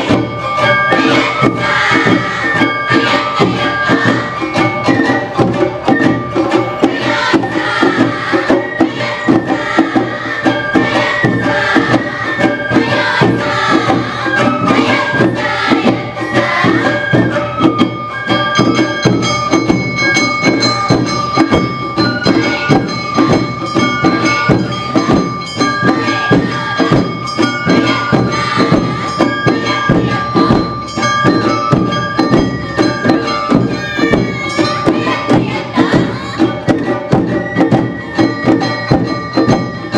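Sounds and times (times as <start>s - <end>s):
drums beating: 0.0s - 39.9s
high held melody line: 0.0s - 39.9s.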